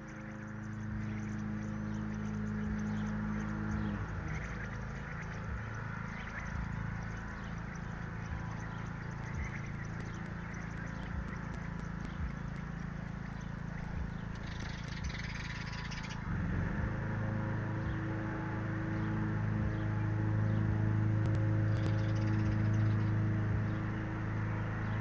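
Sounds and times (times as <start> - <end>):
bird chirps: 0.0 - 16.3, 18.9 - 25.0
steady low hum: 0.0 - 25.0.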